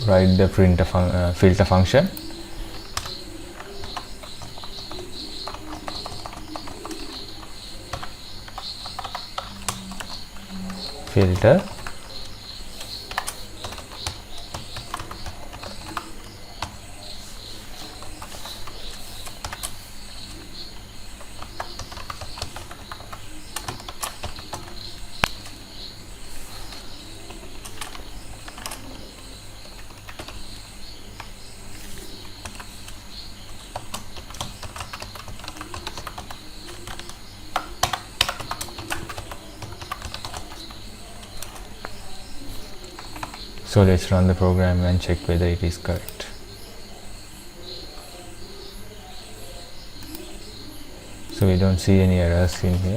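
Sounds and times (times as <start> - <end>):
keyboard typing: 0.8 - 47.0, 47.6 - 52.9.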